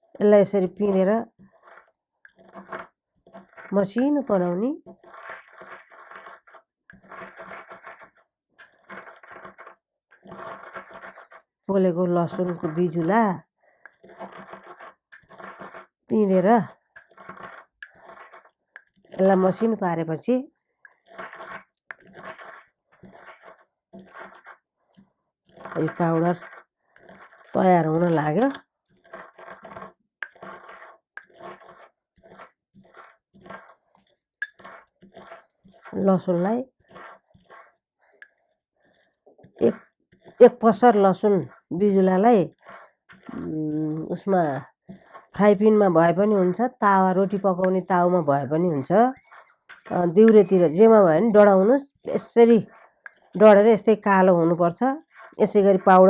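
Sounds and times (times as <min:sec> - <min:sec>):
garlic crushing and grinding: 0:00.0 - 0:56.0.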